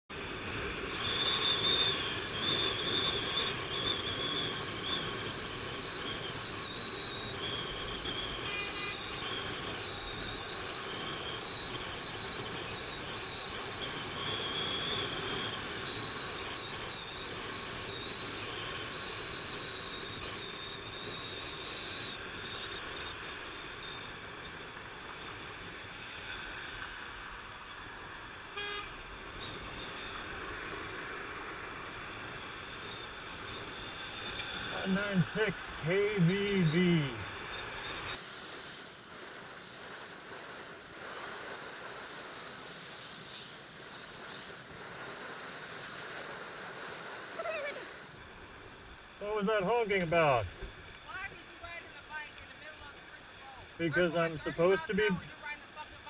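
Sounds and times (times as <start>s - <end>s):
street traffic noise: 0.1s - 14.1s, 14.9s - 56.0s
high-pitched whine: 0.1s - 56.0s.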